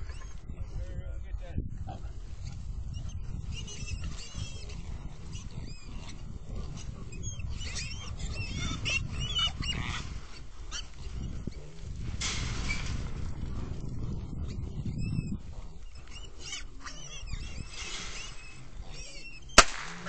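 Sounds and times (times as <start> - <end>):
hogs grunting: 1.8 - 20.0
hogs squealing: 2.8 - 13.8, 14.4 - 20.0.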